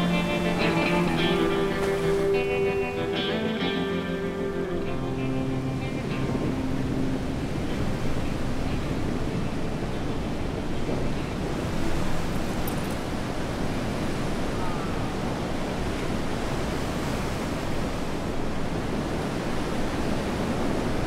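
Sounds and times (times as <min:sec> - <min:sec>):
ocean surf: 0:00.0 - 0:21.0
wind buffeting microphone: 0:00.0 - 0:21.0.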